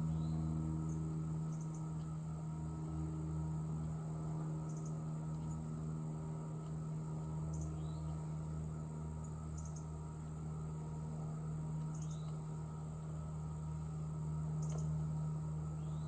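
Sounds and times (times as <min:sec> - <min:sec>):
crickets droning: 0:00.0 - 0:16.0
low hum: 0:00.0 - 0:16.0.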